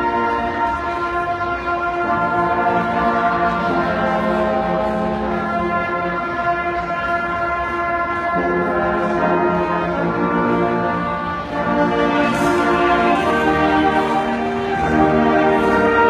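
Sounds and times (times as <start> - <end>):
concert band playing: 0.0 - 16.0.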